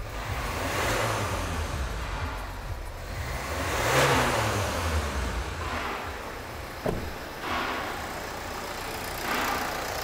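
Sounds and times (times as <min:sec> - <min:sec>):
diesel engine revving: 0:00.0 - 0:10.0.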